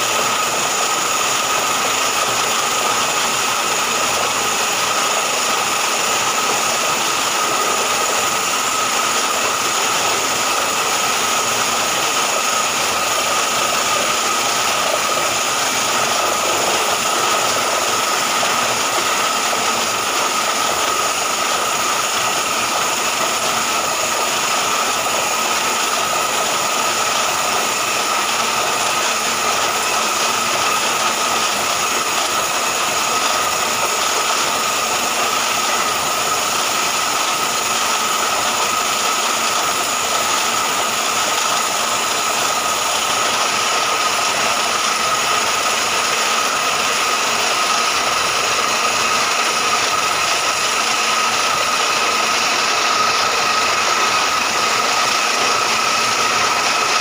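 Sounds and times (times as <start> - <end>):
drilling machine rattling: 0.0 - 57.0
drilling machine whine: 0.0 - 57.0.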